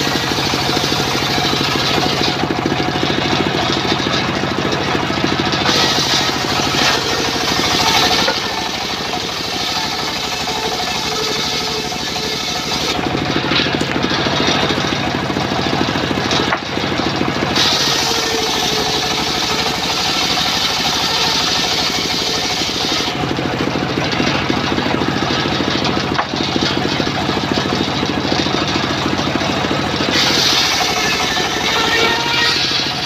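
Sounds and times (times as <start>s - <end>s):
circular saw cutting timber: 0.0s - 33.0s
engine running steadily: 0.0s - 33.0s.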